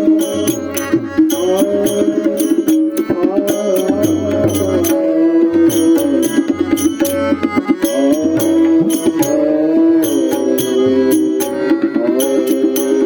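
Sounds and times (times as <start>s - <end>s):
drum and percussion beat: 0.0s - 13.0s
instrumental melody: 0.0s - 13.0s.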